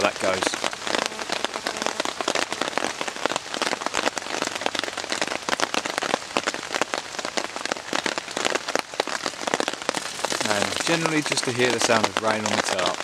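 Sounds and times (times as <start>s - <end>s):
rain pattering on a tarp: 0.0s - 13.0s.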